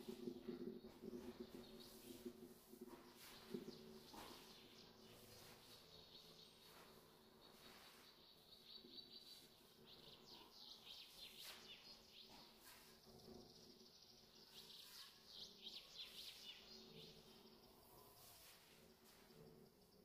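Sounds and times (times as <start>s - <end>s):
faint bird twittering: 0.0s - 20.0s.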